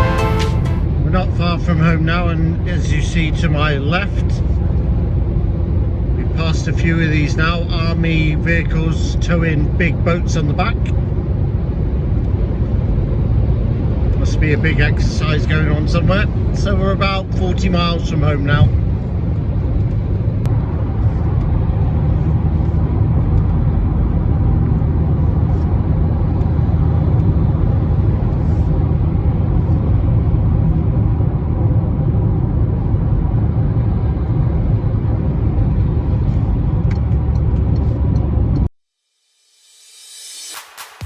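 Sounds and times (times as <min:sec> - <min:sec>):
in-cabin road and engine noise: 0:00.0 - 0:38.7.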